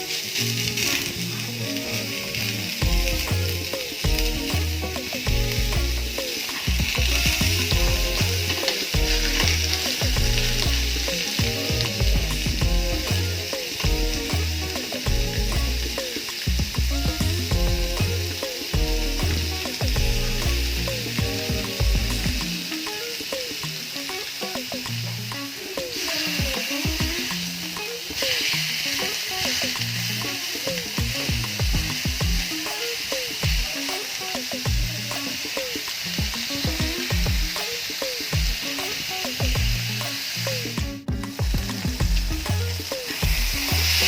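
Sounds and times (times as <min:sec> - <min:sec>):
background music with bass line: 0:00.0 - 0:44.0
meat sizzling in a frying pan: 0:00.0 - 0:44.0.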